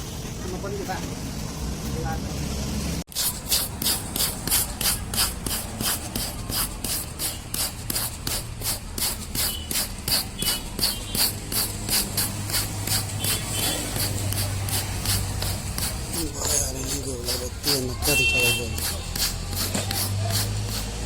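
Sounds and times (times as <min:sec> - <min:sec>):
scraping on tyre rubber: 0:00.4 - 0:21.0.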